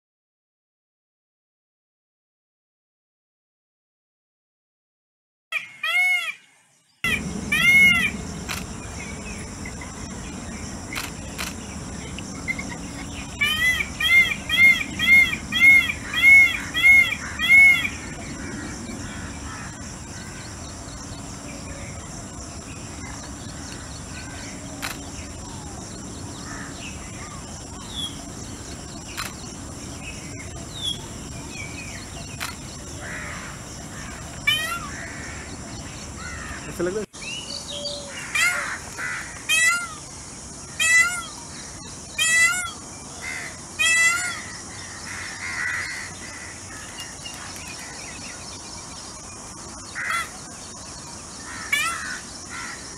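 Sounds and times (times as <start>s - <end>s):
peacocks calling: 5.5s - 52.9s
high-pitched background buzz: 7.0s - 52.9s.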